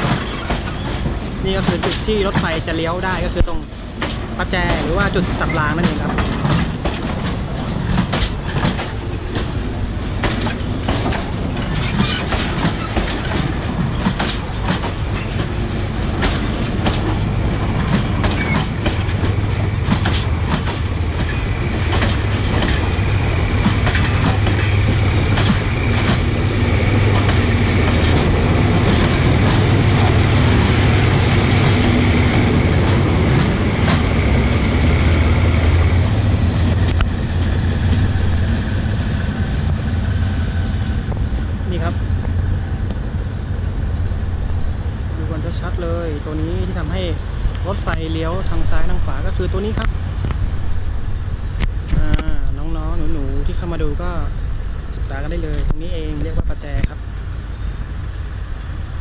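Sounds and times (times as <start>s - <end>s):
train wheels clicking: 0.0s - 50.6s.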